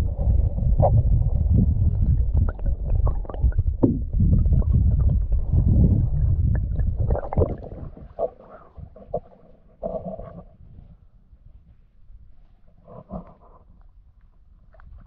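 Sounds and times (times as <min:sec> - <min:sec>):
muffled underwater water rumble: 0:00.0 - 0:15.0.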